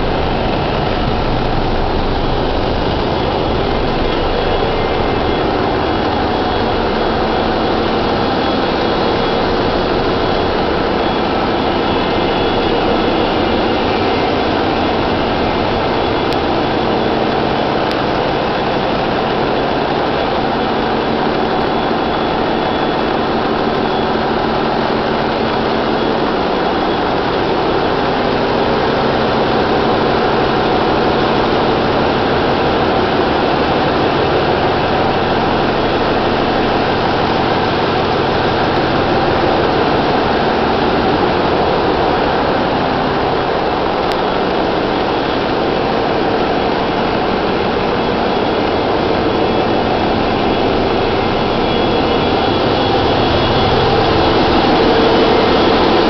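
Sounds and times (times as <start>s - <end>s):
marine diesel engine running: 0.0s - 56.0s.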